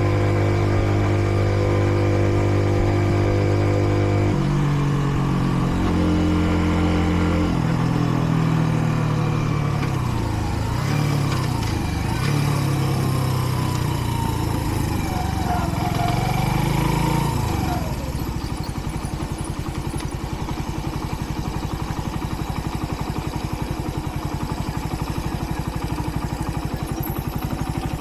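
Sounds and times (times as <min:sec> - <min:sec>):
motorcycle engine while riding: 0:00.0 - 0:28.0.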